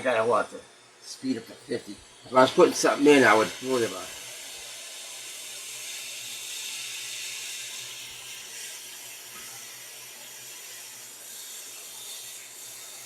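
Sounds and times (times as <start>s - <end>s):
hot air blowing hiss: 0.0s - 13.0s.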